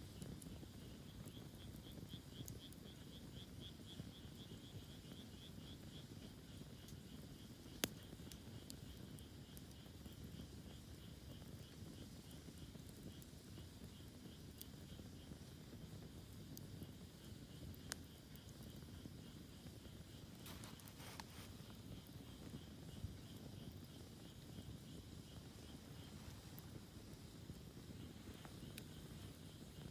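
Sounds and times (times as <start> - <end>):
cricket chirping: 0.0 - 29.9.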